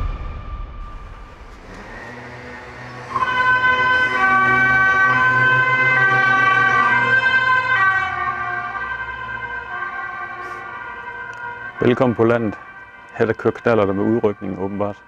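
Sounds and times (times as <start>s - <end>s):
two-tone emergency siren: 0.1s - 15.0s.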